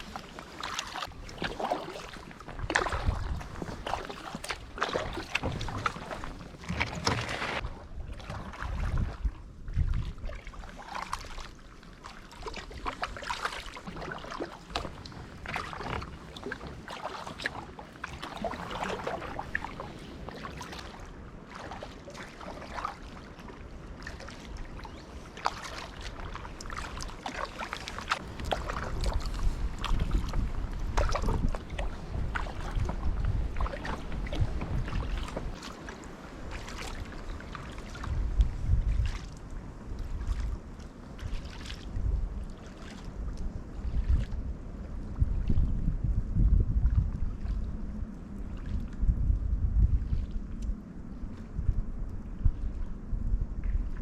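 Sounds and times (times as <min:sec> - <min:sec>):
wind on microphone: 0:00.0 - 0:11.6, 0:12.4 - 0:54.0
paddle splashing water: 0:00.0 - 0:45.8, 0:46.7 - 0:49.1.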